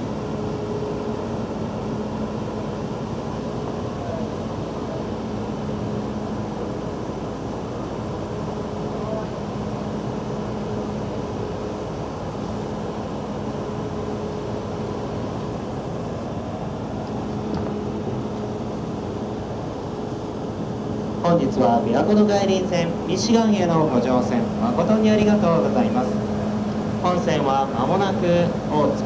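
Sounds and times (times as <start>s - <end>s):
even wash of noise: 0.0s - 29.0s
low machinery hum: 0.0s - 29.0s.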